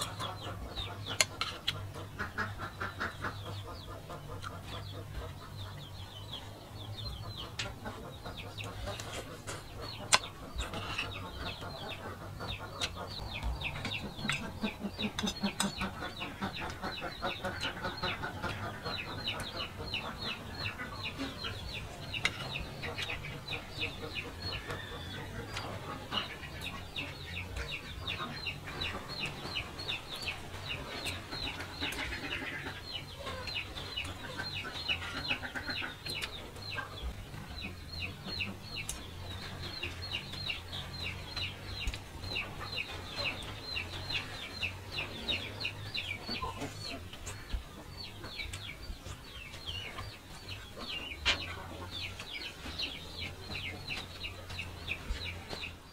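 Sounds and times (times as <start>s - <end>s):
bird chirping: 0.0s - 55.9s.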